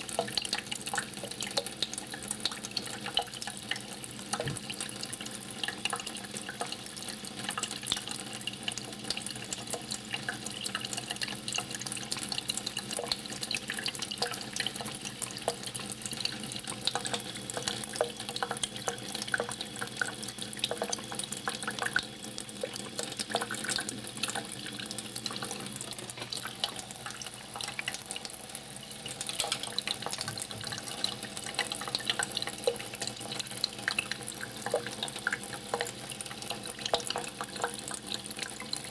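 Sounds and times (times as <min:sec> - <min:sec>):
water running from a tap: 0:00.0 - 0:38.9.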